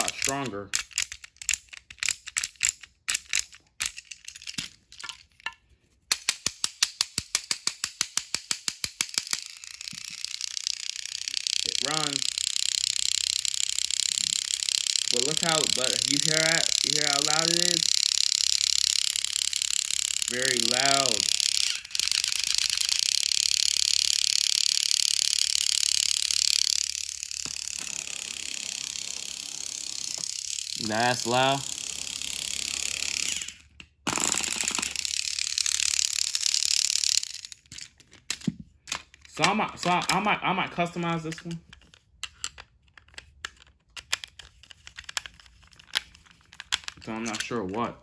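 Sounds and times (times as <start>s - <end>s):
toy motor and gears whirring: 0.0s - 5.3s, 6.1s - 47.9s
toy train clicking: 0.0s - 5.3s, 6.1s - 47.8s.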